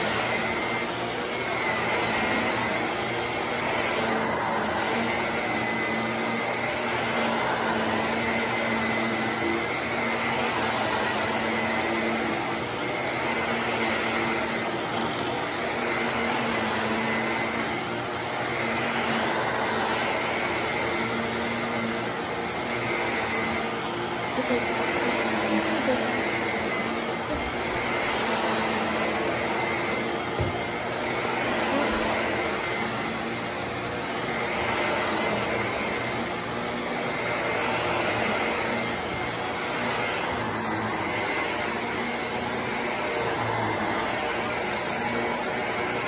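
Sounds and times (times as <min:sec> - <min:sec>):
vacuum cleaner motor drone: 0:00.0 - 0:46.0.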